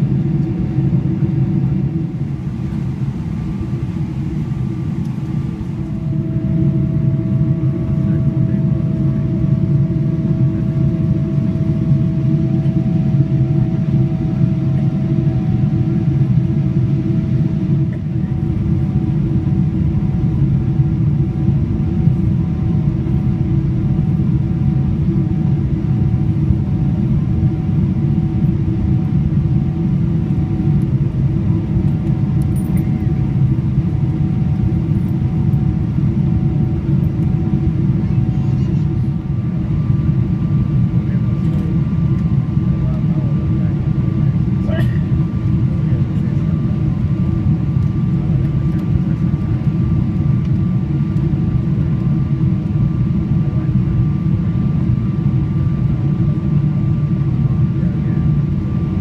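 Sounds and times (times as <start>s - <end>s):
aircraft cabin rumble: 0.0s - 59.0s
faint engine whine: 0.0s - 59.0s.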